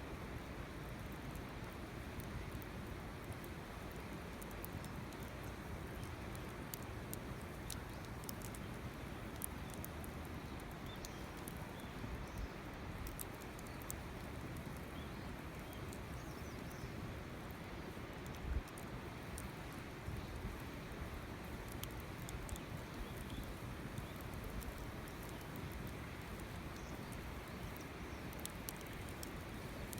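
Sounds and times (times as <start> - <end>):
campfire crackling and popping: 0.1 - 29.9.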